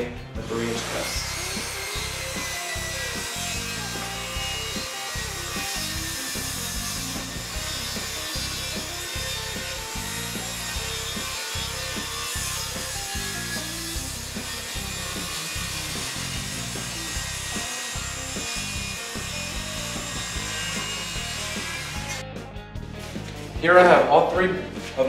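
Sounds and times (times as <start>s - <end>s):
circular saw cutting plywood: 0.4s - 22.2s.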